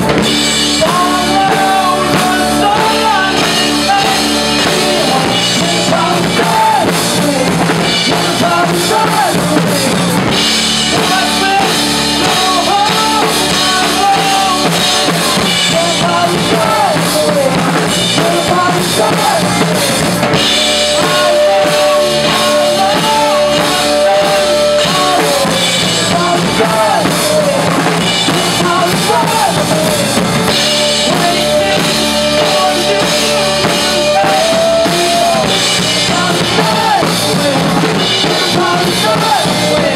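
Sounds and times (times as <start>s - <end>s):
drum kit: 0.0s - 39.9s
electric bass: 0.0s - 39.9s
electric guitar: 0.0s - 39.9s
person singing: 0.0s - 39.9s.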